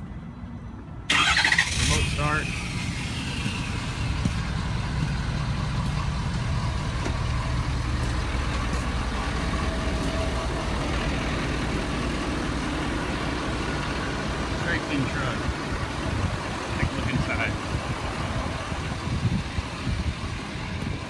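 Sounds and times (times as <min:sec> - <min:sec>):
diesel engine idling: 0:00.4 - 0:21.0.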